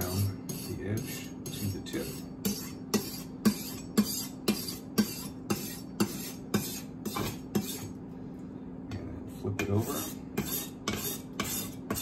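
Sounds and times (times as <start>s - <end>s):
knife scraping on sharpening stone: 0.0s - 7.9s, 9.6s - 12.0s.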